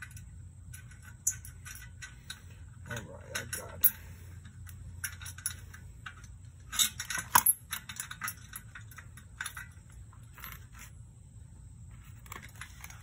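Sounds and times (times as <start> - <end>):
metal clicks and clinks: 0.0 - 10.9.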